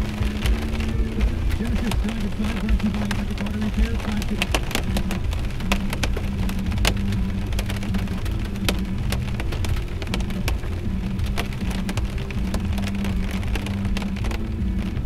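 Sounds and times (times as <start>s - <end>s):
car driving at highway speed: 0.0s - 15.0s
rain ticking on windshield: 0.0s - 15.0s.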